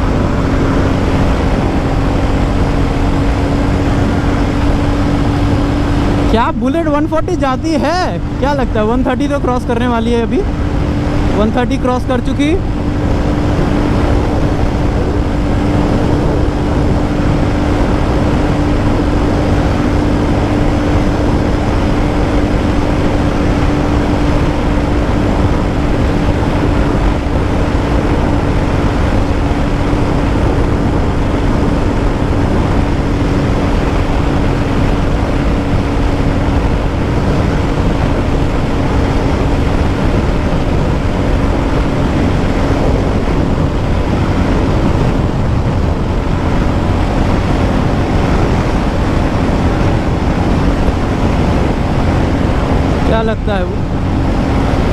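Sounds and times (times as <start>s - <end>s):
motorcycle engine at full throttle: 0.0s - 54.9s
wind rush on microphone: 0.0s - 54.9s.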